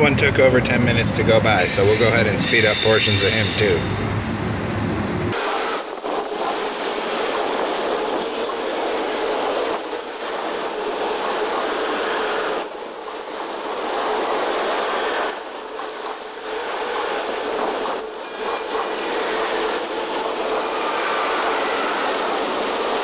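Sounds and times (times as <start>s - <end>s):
train wheels on rails: 1.2s - 23.0s.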